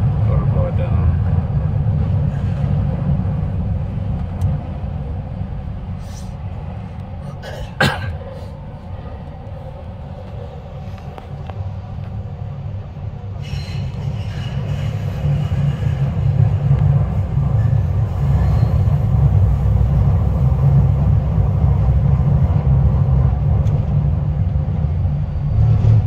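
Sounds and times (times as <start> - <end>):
train rumbling through tunnel: 0.0 - 26.0.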